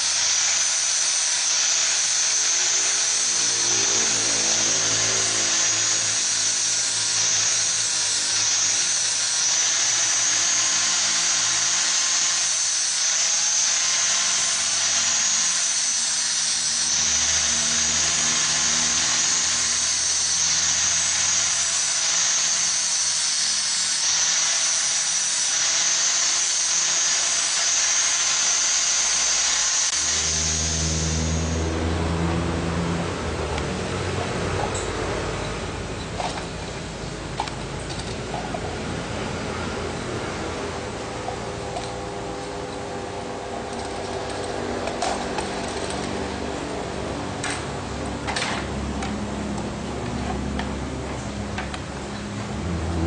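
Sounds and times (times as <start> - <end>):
power tool whirring: 0.0 - 53.0.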